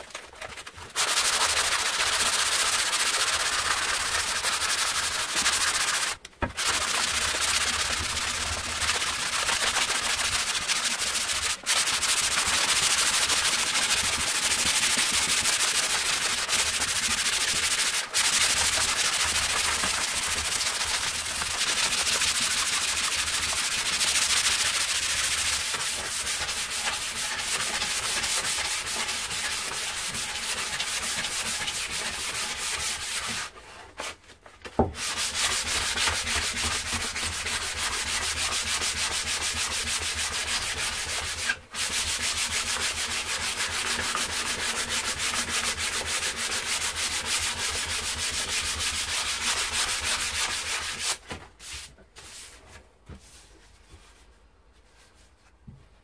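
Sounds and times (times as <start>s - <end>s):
sandpaper rubbing wood: 0.0s - 34.2s, 35.0s - 55.3s.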